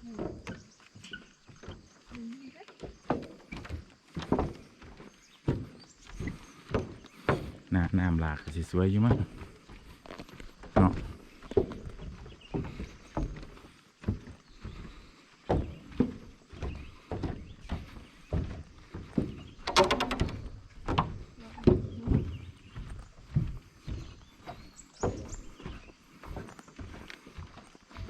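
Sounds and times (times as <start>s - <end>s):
footsteps on stairs: 0.0s - 28.0s.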